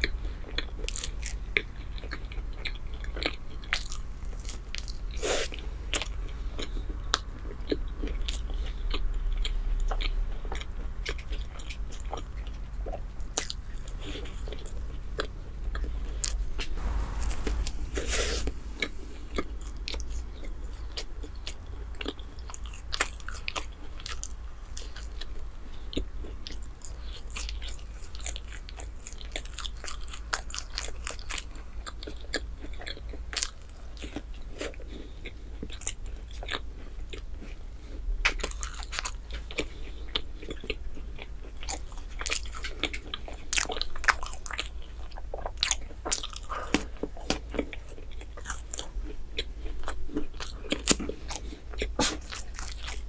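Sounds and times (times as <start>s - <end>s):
person chewing bread: 0.0s - 17.7s, 18.4s - 53.0s.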